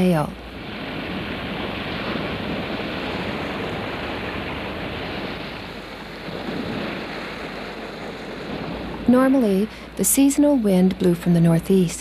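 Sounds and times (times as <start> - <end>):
sea water splashing against hull: 0.0 - 11.6.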